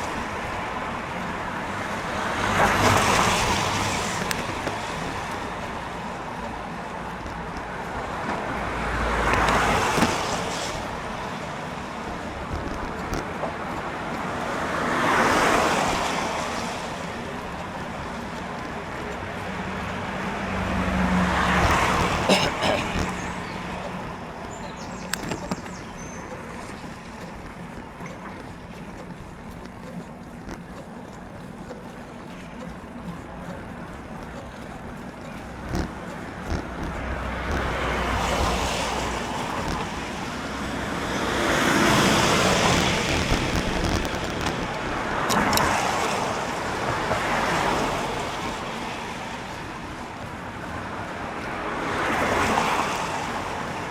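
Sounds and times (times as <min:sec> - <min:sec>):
cars passing on wet road: 0:00.0 - 0:53.9
low engine hum: 0:00.0 - 0:53.9.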